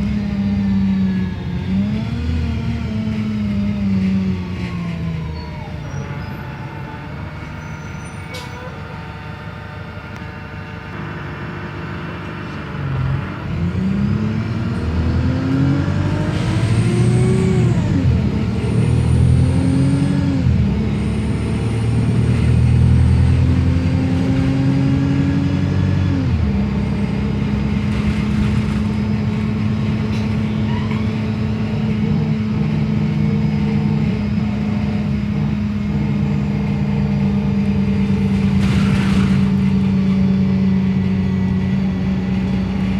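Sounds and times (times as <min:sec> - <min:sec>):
bus engine pulling away: 0:00.0 - 0:42.9.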